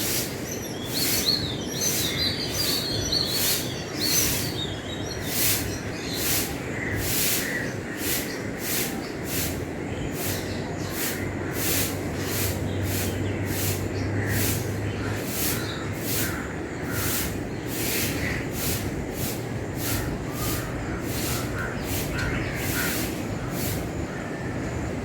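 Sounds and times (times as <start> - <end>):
broom sweeping: 0.0 - 4.6, 5.2 - 23.9
birds chirping faintly: 0.0 - 25.0.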